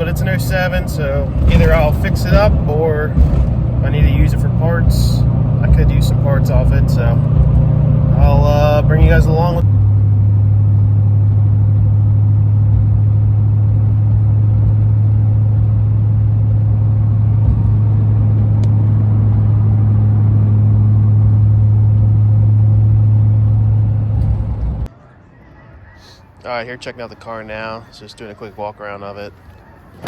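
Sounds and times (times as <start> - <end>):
engine and road noise drone: 0.0 - 30.0.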